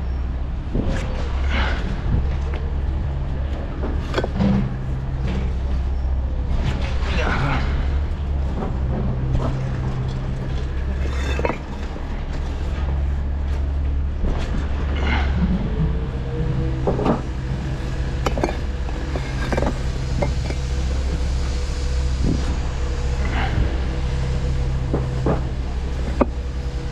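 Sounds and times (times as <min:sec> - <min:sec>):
low engine hum: 0:00.0 - 0:26.9.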